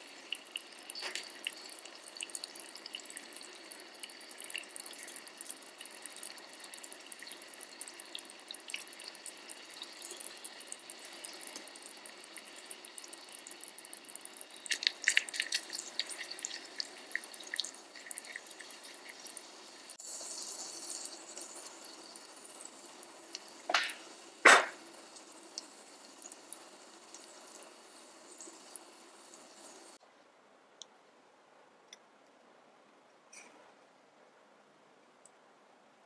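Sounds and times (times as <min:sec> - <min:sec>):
oil popping: 0:00.0 - 0:29.7
oil sizzling and crackling: 0:00.0 - 0:30.0.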